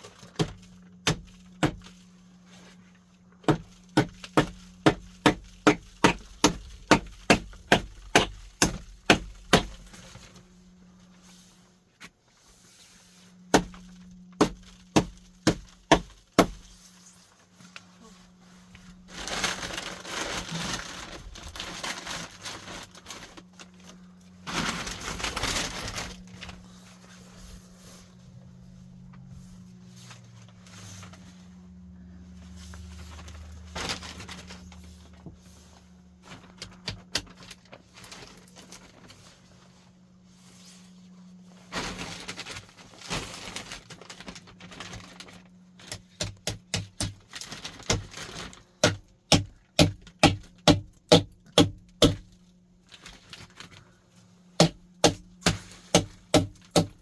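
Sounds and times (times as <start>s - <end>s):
rustling of plastic sheeting: 0.0s - 51.0s, 51.6s - 57.0s.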